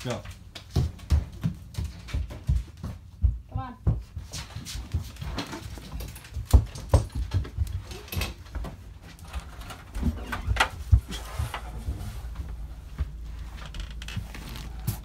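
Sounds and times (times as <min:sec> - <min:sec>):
footsteps on carpeted stairs: 0:00.1 - 0:15.0.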